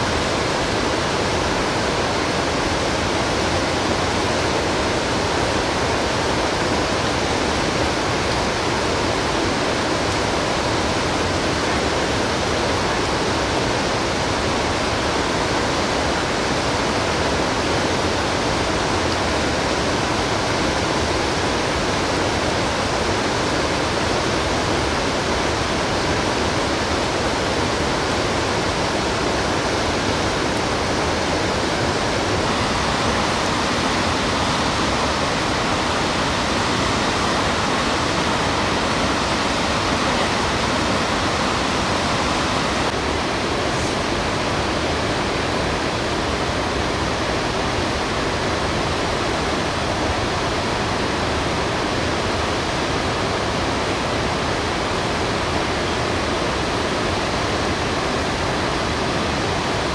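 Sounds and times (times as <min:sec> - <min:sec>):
river rushing over rapids: 0:00.0 - 0:59.9.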